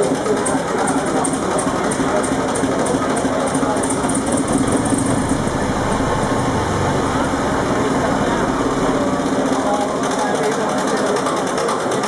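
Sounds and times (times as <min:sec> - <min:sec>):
diesel engine running: 0:00.0 - 0:11.6.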